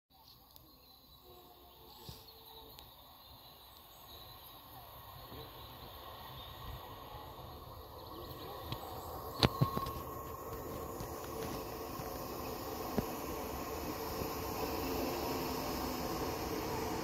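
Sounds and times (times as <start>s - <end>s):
distant train rumble: 1.0s - 17.0s.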